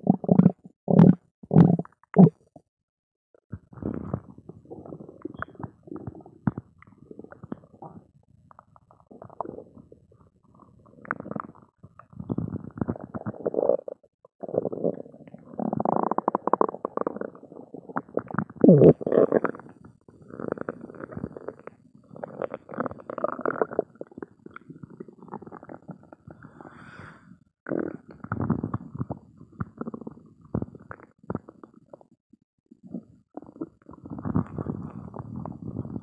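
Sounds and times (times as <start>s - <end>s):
stomach growling and gurgling: 0.0s - 2.6s, 3.4s - 36.0s.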